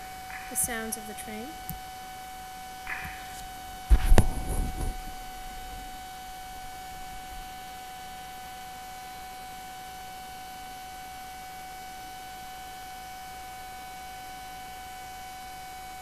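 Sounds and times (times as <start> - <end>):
electrical hum with high whine: 0.0 - 16.0.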